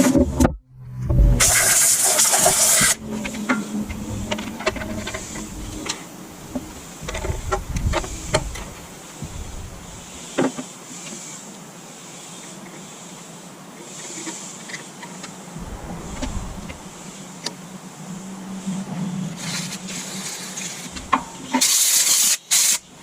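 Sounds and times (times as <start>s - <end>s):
loud hiss of spray: 3.7s - 23.0s.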